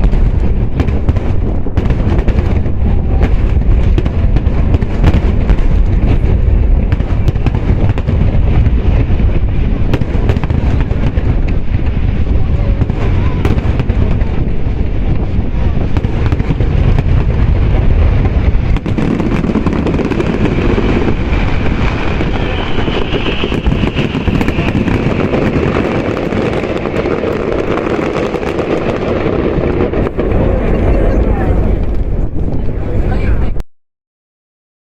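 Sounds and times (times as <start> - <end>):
fireworks booming and crackling: 0.0 - 33.6.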